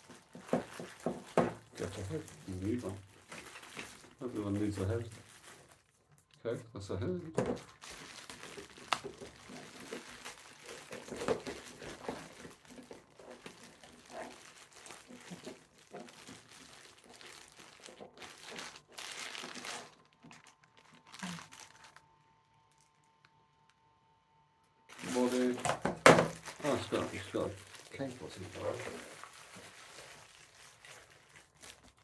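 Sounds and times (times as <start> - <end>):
packaging crinkling and rustling: 0.0 - 23.2, 24.9 - 32.0.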